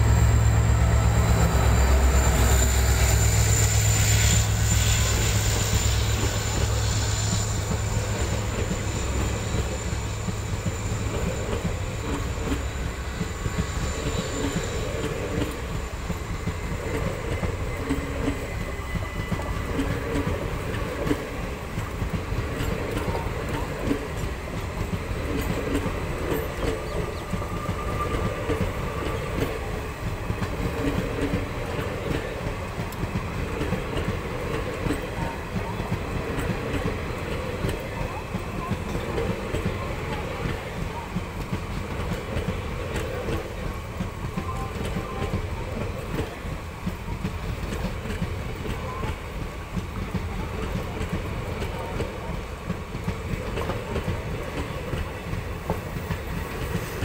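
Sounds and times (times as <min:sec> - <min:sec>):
diesel locomotive engines droning: 0:00.0 - 0:57.0
train wheels clattering over rail joints: 0:00.0 - 0:57.0.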